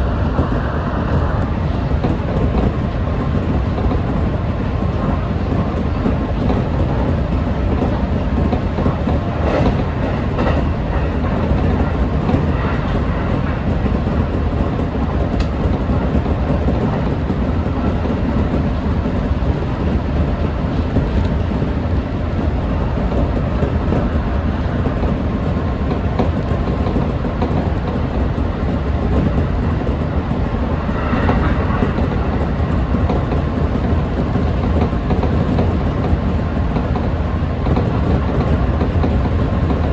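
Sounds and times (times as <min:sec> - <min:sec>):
train wheels rumbling on rails: 0:00.0 - 0:39.9
train wheel clicks: 0:00.2 - 0:39.9.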